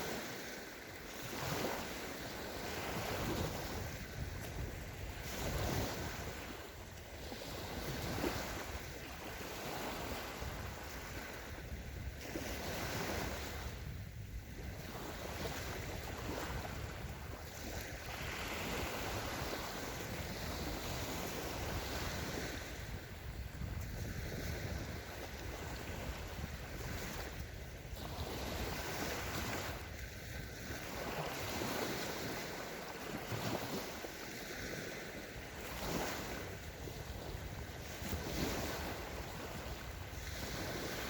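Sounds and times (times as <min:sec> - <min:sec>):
waves breaking on sandy shore: 0:00.0 - 0:41.0
wind rumbling on microphone: 0:00.0 - 0:41.0.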